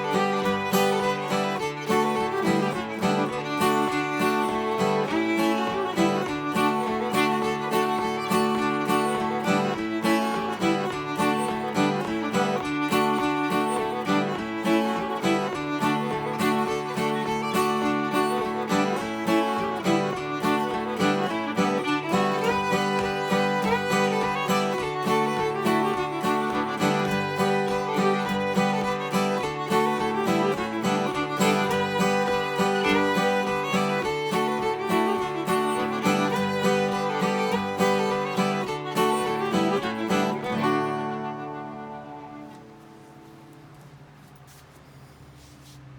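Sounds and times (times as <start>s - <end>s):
acoustic guitar strumming: 0.0s - 43.8s
fiddle tune: 0.0s - 44.0s.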